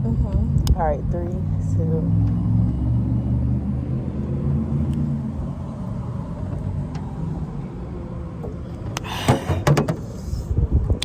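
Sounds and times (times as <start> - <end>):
low vehicle engine rumble: 0.0 - 11.0.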